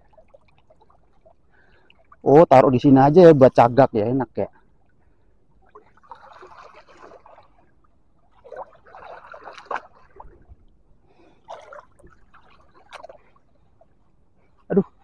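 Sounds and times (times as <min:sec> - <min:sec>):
pond water splashing and sloshing: 0:00.0 - 0:15.0.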